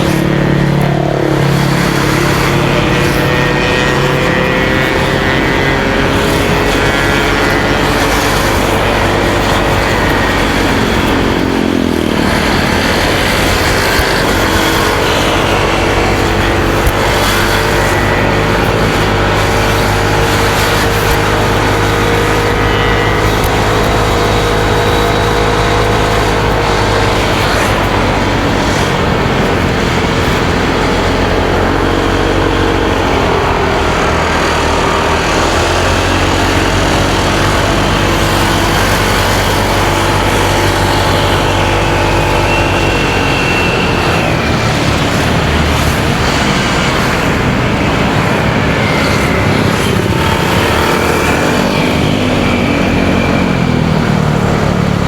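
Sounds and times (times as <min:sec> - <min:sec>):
motorcycle engine running: 0:00.0 - 0:55.0
road and traffic noise: 0:00.0 - 0:55.0.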